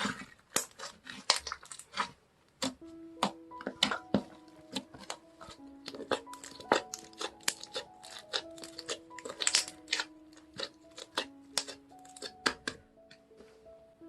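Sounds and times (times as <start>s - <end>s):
slime popping and crackling: 0.0s - 13.3s
soft background music: 2.6s - 14.0s.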